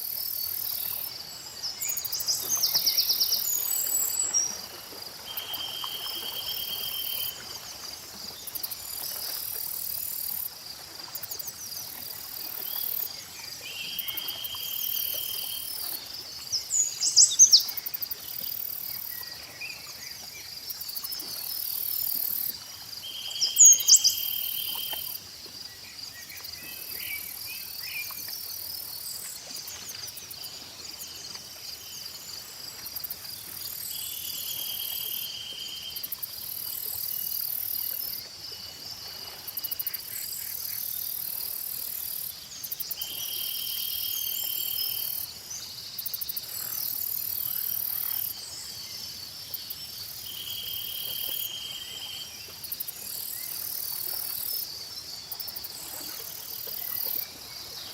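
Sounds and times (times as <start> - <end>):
insects and crickets trilling: 0.0 - 57.9.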